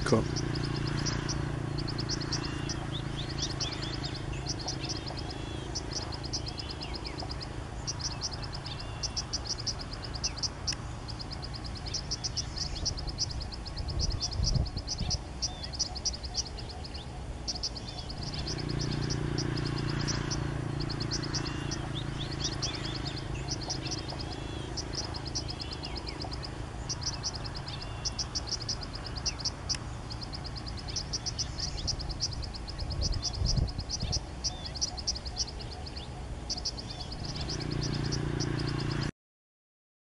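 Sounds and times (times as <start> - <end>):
birds chirping: 0.0 - 39.1
low steady hum: 0.0 - 39.1
small birds trilling: 0.0 - 39.1.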